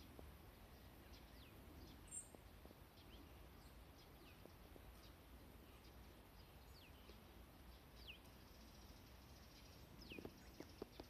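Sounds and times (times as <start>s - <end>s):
woodland ambience: 0.0s - 11.0s.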